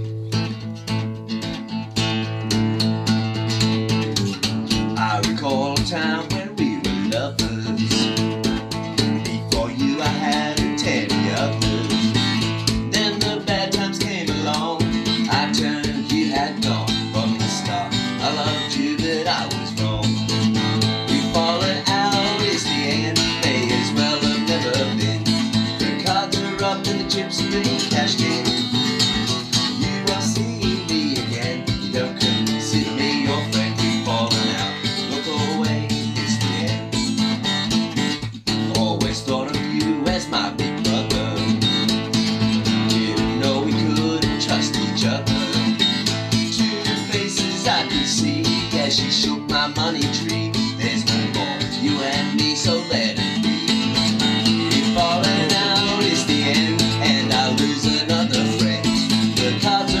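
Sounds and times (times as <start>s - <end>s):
acoustic guitar strummed: 0.0s - 60.0s
man singing: 3.8s - 37.5s, 38.4s - 60.0s.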